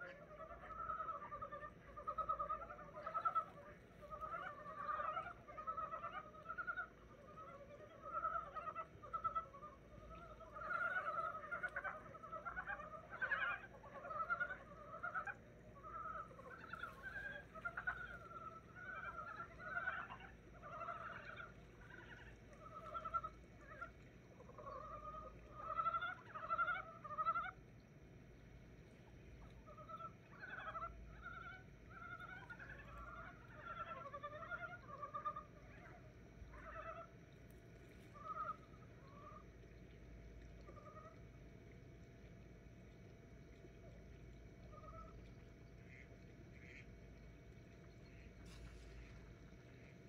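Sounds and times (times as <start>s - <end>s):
frogs croaking: 0.0s - 50.0s.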